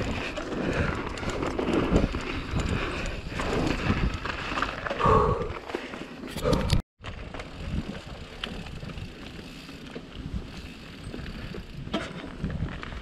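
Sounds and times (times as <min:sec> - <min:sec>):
bike clicks and rattles: 0:00.0 - 0:13.0
wind buffeting camera: 0:00.0 - 0:13.0.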